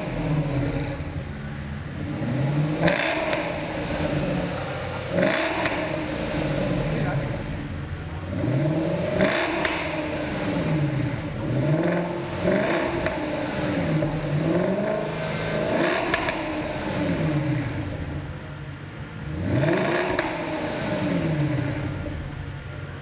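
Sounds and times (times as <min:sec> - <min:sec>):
exhaust cracks: 0:00.0 - 0:18.6, 0:19.2 - 0:22.6
car engine revving: 0:00.0 - 0:23.0.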